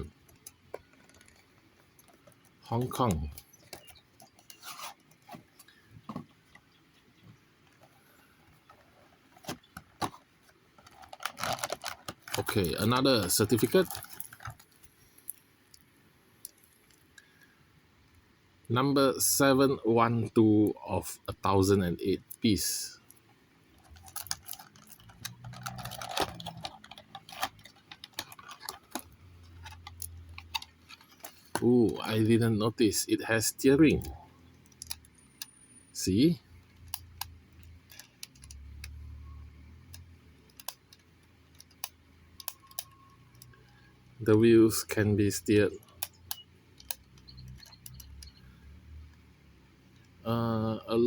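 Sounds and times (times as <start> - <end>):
model bus and packaging handled: 0.0 - 17.4, 21.6 - 48.4.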